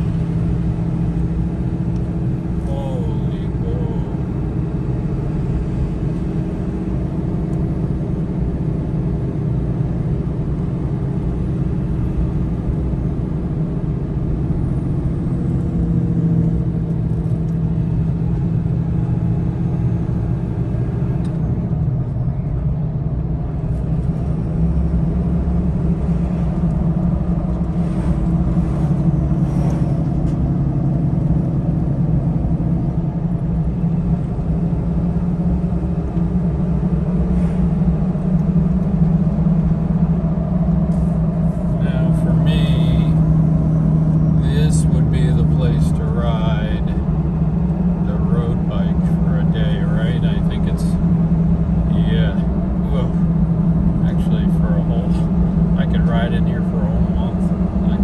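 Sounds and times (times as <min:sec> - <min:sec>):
truck engine drone from inside cab: 0:00.0 - 0:58.0
tyres on road: 0:00.0 - 0:58.0.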